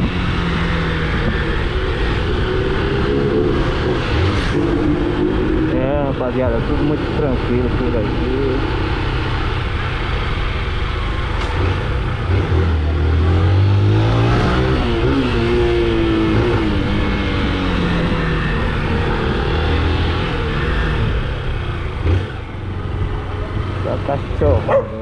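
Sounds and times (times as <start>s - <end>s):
motorcycle engine: 0.0s - 25.0s
wind and road noise: 0.0s - 25.0s.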